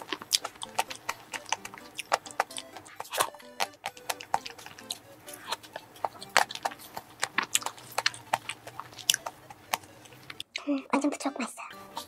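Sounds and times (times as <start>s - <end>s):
wet mouth clicks and chewing: 0.0s - 12.0s.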